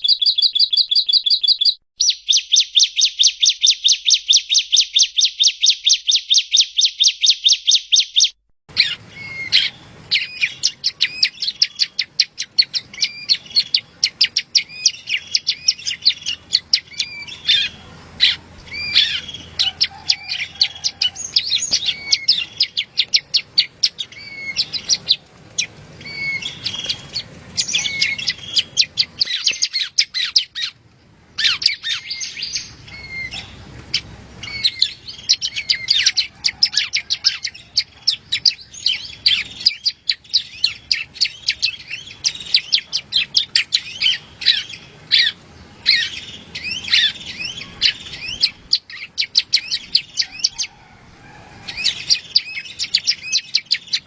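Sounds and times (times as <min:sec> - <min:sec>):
bird chirps and trills: 0:00.0 - 0:30.8, 0:31.4 - 0:50.9, 0:51.6 - 0:54.0
bird rapid sharp chirps: 0:00.0 - 0:30.8, 0:31.4 - 0:50.8.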